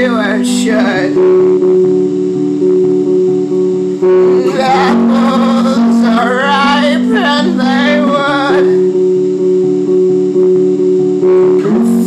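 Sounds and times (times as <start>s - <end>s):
man singing wavering notes: 0.0s - 10.2s, 11.3s - 12.0s
electric guitar strumming: 0.0s - 12.0s.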